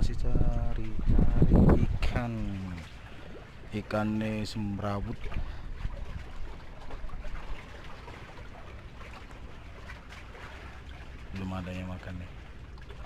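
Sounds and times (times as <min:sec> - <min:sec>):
water lapping and sloshing: 0:00.0 - 0:13.0.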